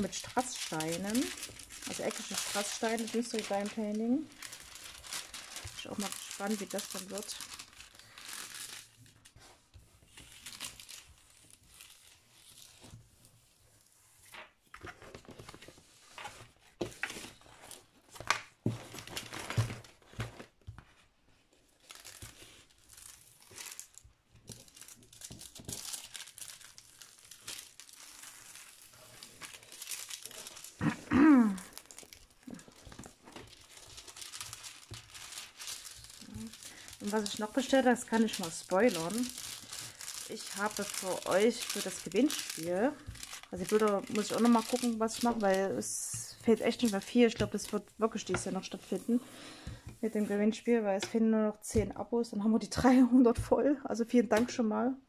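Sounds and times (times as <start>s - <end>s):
plastic film crinkling: 0.0s - 51.2s.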